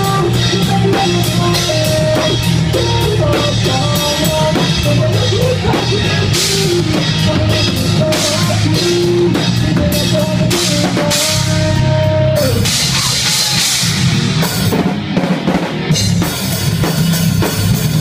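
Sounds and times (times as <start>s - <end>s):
held melodic lead line: 0.0s - 18.0s
live rock band playing: 0.0s - 18.0s.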